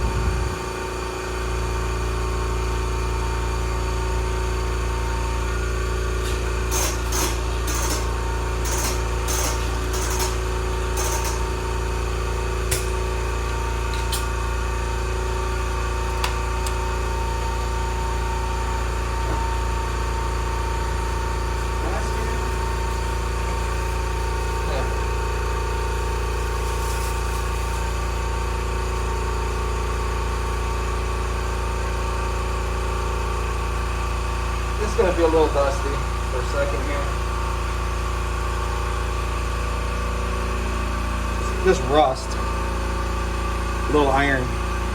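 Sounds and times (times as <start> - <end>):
air compressor motor humming: 0.0 - 44.9.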